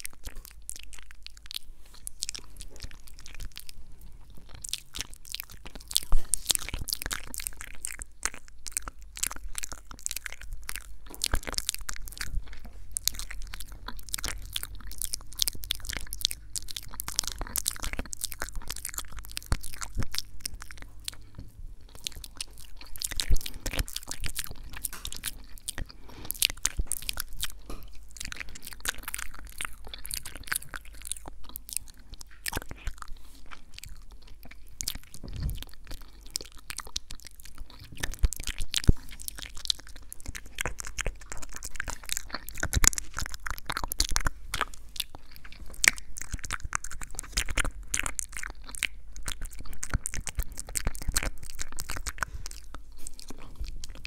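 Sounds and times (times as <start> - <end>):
wet mouth clicks and smacks: 0.0 - 54.0.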